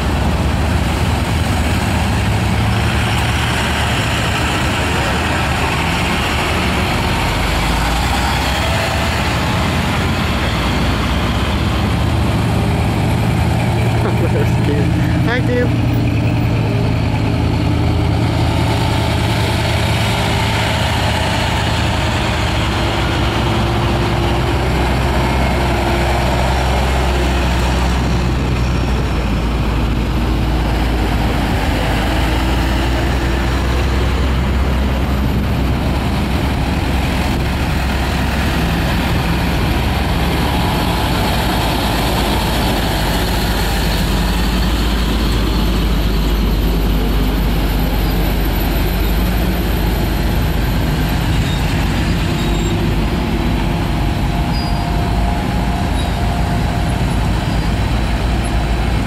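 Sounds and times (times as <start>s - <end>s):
trucks driving past: 0.0s - 59.0s.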